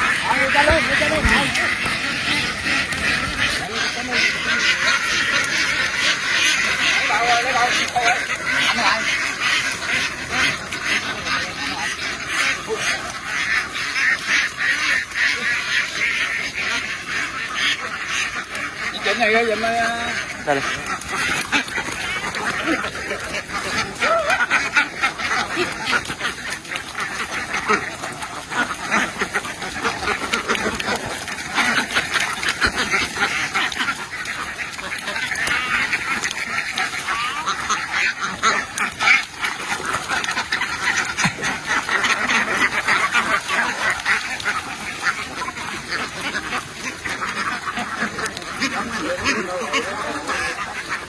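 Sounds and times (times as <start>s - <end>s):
flock of ducks quacking: 0.0s - 51.0s.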